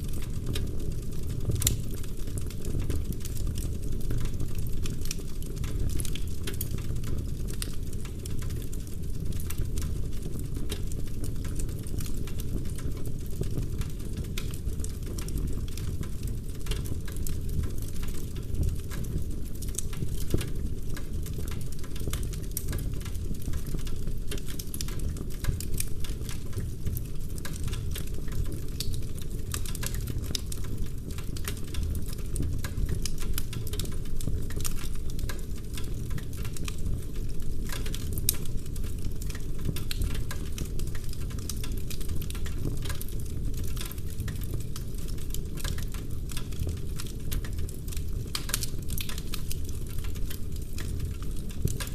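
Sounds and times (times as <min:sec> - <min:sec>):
log fire crackling: 0:00.0 - 0:51.9.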